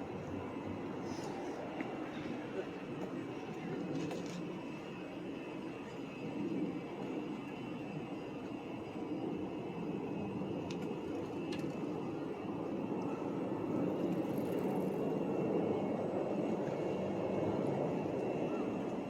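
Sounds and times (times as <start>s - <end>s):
low rumble of engine noise: 0.0s - 19.0s.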